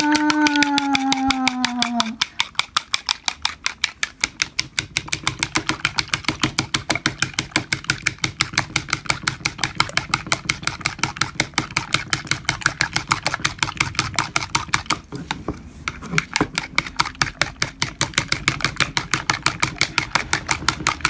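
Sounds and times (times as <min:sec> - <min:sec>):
utensil clicking against bowl: 0:00.0 - 0:15.1, 0:15.9 - 0:21.0.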